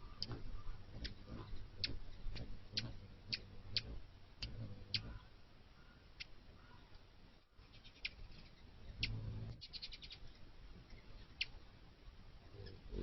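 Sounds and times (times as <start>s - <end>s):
small bird chip calls: 0.0s - 7.0s, 7.6s - 11.6s.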